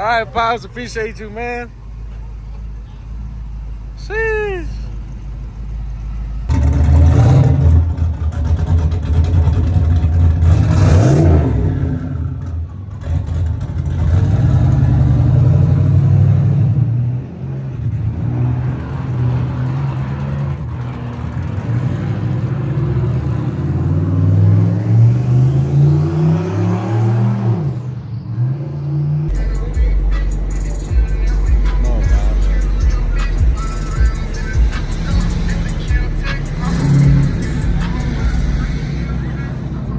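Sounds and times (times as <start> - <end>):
performance car engine revving: 4.8 - 39.9.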